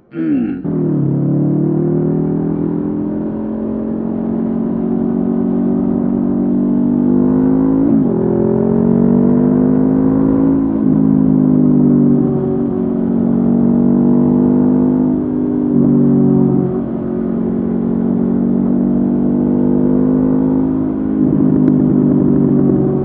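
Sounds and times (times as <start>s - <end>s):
motorcycle engine running: 0.3s - 23.0s.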